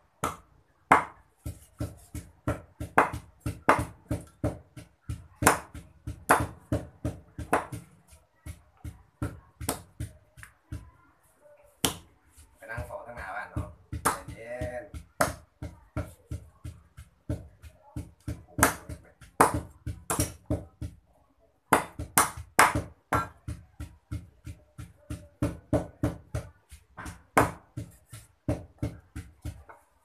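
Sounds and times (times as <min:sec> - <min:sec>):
pestle pounding in mortar: 0:00.1 - 0:11.0, 0:11.8 - 0:21.1, 0:21.7 - 0:30.0
cleaver chopping on wooden block: 0:00.2 - 0:10.9, 0:12.8 - 0:21.0, 0:21.7 - 0:29.8.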